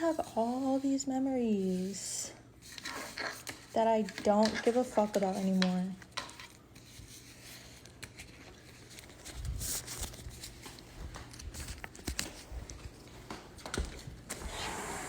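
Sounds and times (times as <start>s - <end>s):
objects rustling: 2.6s - 14.9s.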